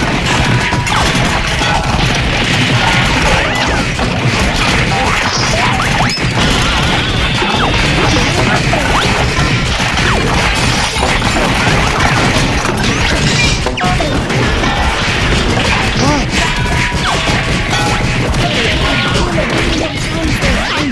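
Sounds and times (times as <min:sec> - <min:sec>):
whacks smashes and crashes: 0:00.0 - 0:20.9.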